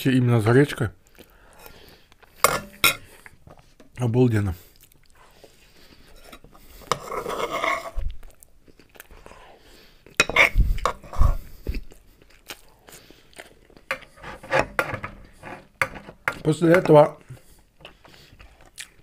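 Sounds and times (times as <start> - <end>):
man chewing food: 1.0 - 3.8, 4.6 - 16.4, 17.2 - 19.0.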